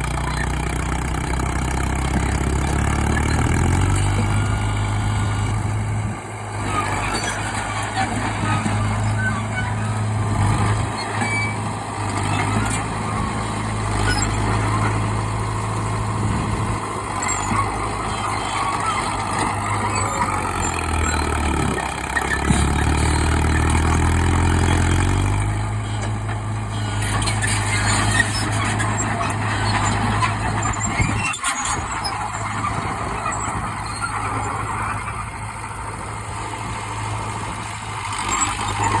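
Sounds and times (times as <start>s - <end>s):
bulldozer engine running: 0.0s - 39.0s.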